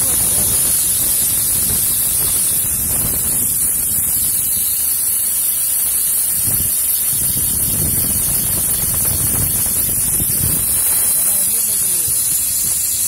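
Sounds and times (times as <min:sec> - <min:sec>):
spray gun hissing: 0:00.0 - 0:13.0.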